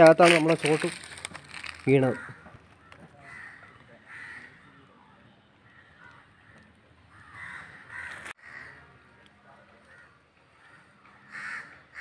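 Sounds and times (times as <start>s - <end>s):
crows cawing: 0.2s - 9.1s, 9.7s - 12.0s.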